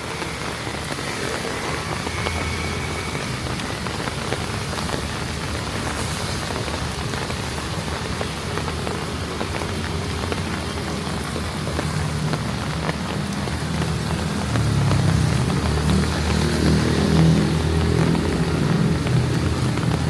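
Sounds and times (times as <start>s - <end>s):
heavy rain on hard surfaces: 0.0s - 20.0s
vehicle engine hum: 0.0s - 20.0s.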